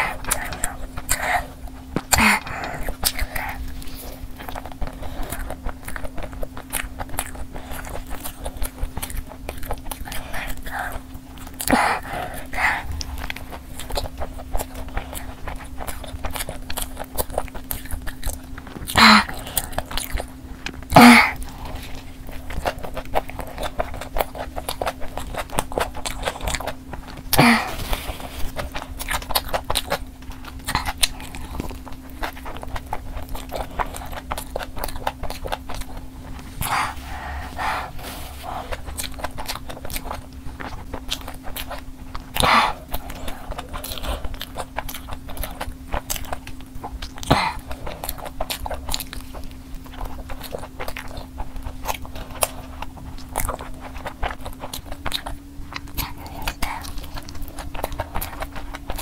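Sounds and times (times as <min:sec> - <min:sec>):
chewing with wet smacking and crunching: 0:00.0 - 0:59.0.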